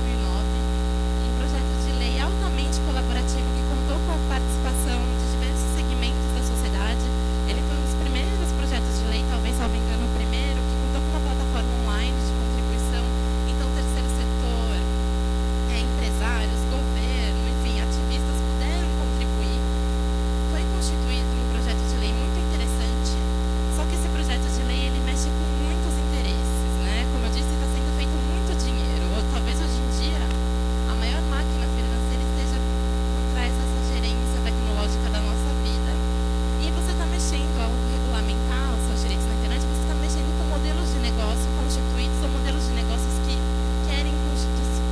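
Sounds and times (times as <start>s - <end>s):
electrical mains hum: 0.0s - 44.9s.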